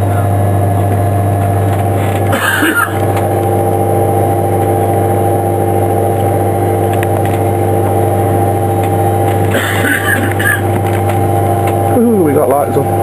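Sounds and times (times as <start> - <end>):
aircraft machinery hum: 0.0 - 13.0.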